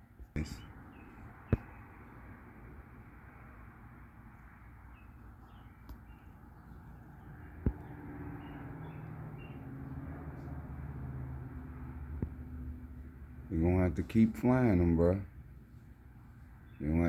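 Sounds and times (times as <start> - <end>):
small birds chirping: 0.0 - 3.1, 4.1 - 17.0.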